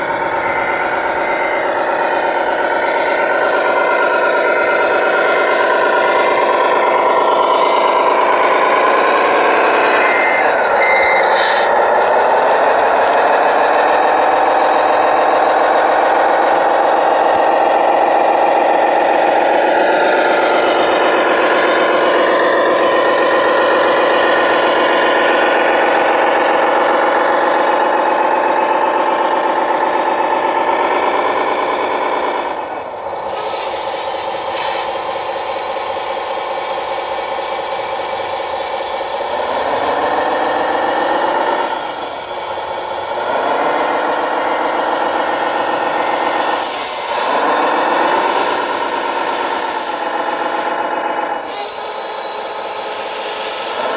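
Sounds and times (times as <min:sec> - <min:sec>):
model truck engine: 0:00.0 - 0:53.9.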